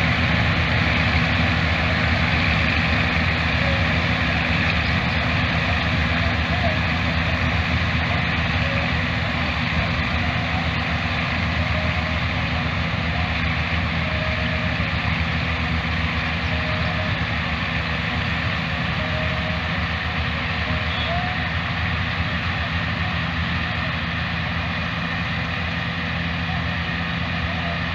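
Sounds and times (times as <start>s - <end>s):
combine harvester engine drone: 0.0s - 27.9s
constant mechanical noise: 0.0s - 27.9s.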